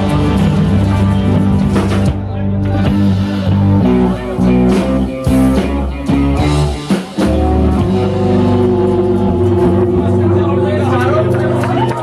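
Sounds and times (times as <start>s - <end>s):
acoustic guitar: 0.0s - 12.0s
drums: 0.0s - 12.0s
electric guitar: 0.0s - 12.0s.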